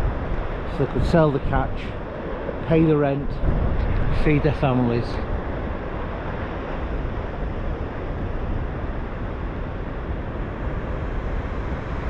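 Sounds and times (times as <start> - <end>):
rough sea surging against shore: 0.0 - 12.0
wind buffeting microphone: 0.0 - 12.0.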